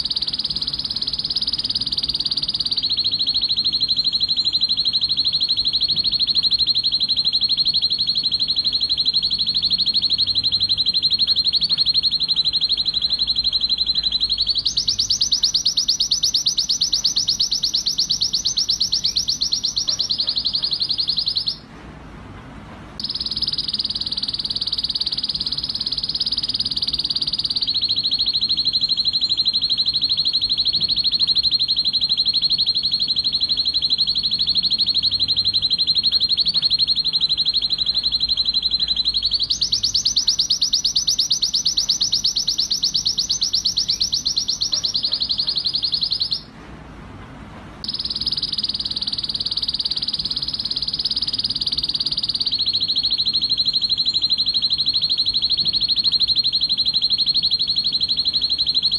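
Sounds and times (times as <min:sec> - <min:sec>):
canary singing rapid trills: 0:00.0 - 0:21.7, 0:23.0 - 0:46.5, 0:47.8 - 0:58.9.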